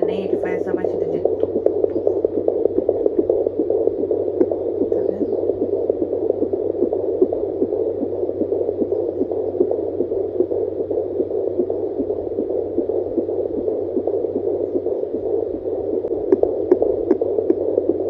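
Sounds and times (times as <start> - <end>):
fetal heartbeat on doppler: 0.0 - 18.0
steady hiss and hum: 0.0 - 18.0.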